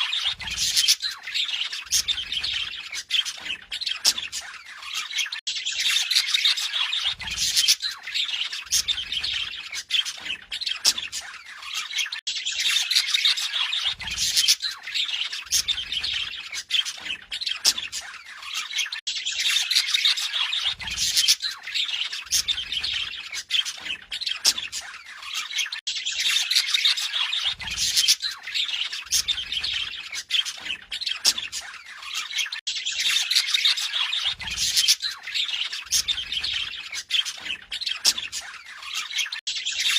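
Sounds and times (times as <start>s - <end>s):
budgerigars warbling and chattering: 0.0s - 39.9s.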